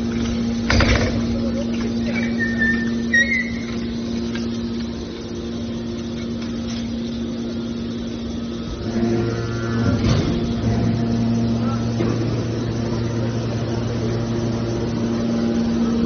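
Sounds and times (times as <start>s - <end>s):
deeper drone: 0.0s - 16.0s
faint whine: 0.0s - 16.0s
hydraulic power unit hum: 0.0s - 16.0s.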